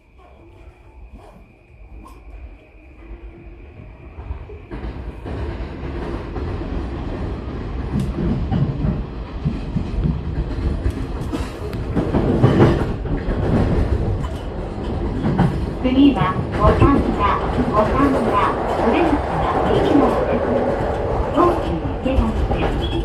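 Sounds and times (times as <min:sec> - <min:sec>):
electric train rumbling on rails: 0:00.0 - 0:23.0.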